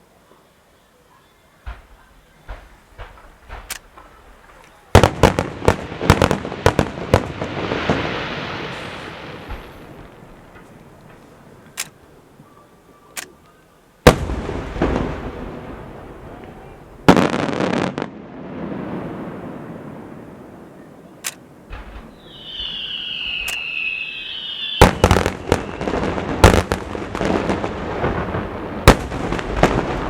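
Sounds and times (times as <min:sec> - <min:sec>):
fireworks crackling hiss: 0:00.0 - 0:13.0, 0:14.0 - 0:30.0
fireworks bangs: 0:01.5 - 0:12.6, 0:14.0 - 0:30.0.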